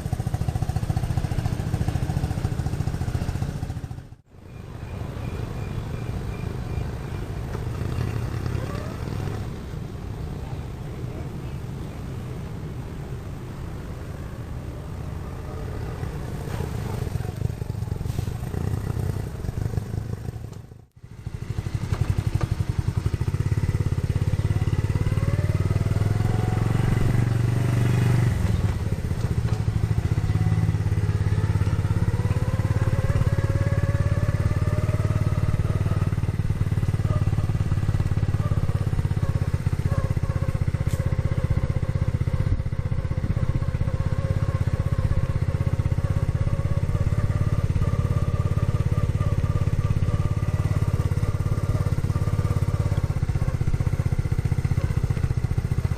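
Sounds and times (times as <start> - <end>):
small motorcycle engine running: 0.0 - 9.8, 15.3 - 55.9.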